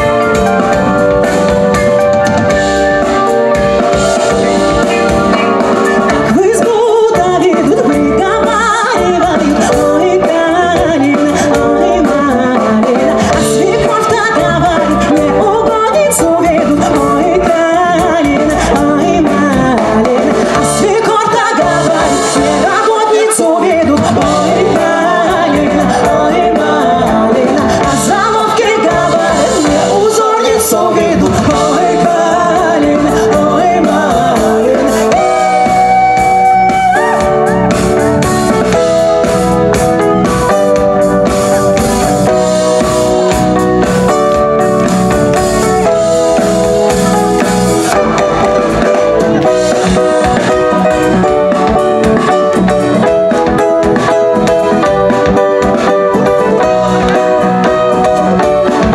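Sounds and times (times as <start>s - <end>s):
folk band playing: 0.0s - 58.9s
person singing: 0.0s - 58.9s.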